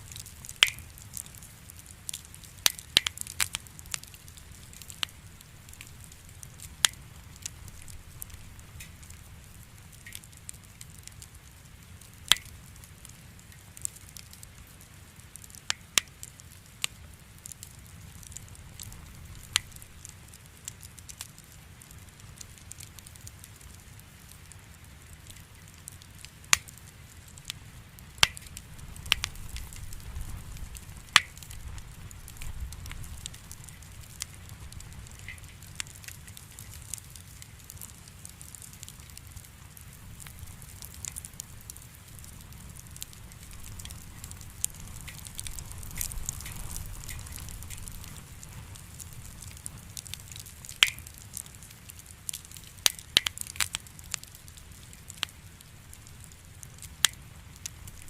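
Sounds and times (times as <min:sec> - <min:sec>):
firewood crackling: 0:00.0 - 0:58.0
low rumble of flame: 0:00.0 - 0:58.0
sharp pops from fire: 0:00.0 - 0:58.0.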